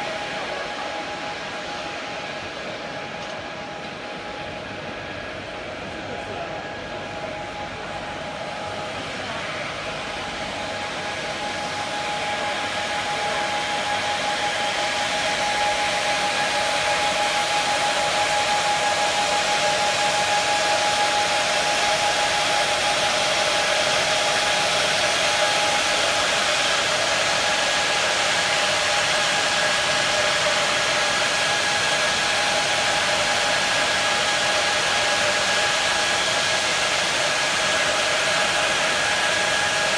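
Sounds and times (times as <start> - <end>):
electric blowers rushing air: 0.0 - 5.2, 6.3 - 39.9.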